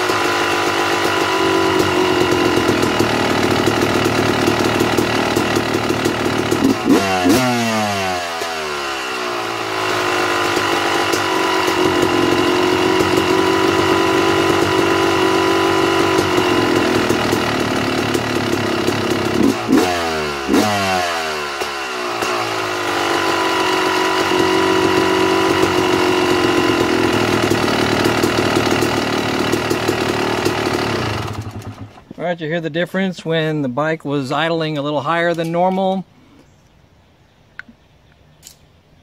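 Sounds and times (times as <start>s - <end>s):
engine throttle blips: 0.0s - 32.2s
motorcycle engine idling: 0.0s - 32.2s.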